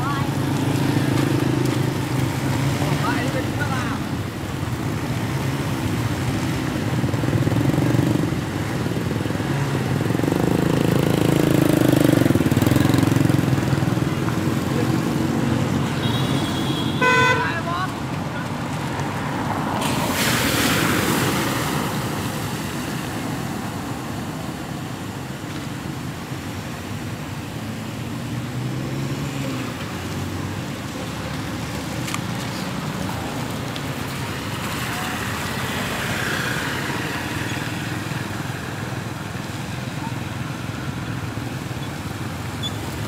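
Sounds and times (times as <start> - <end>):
passing engines: 0.0 - 43.0
tyres through standing water: 0.0 - 43.0.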